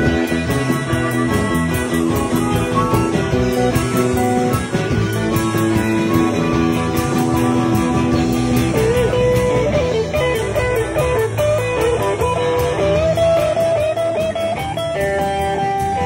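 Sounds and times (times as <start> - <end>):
blues-rock band: 0.0 - 16.0
electric guitar lead: 0.0 - 16.0.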